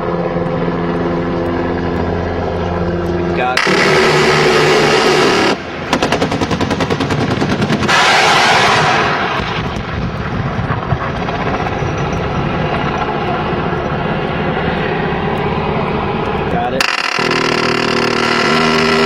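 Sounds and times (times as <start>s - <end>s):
helicopter engine and rotor: 0.0s - 19.0s
helicopter cannon firing: 3.4s - 18.6s.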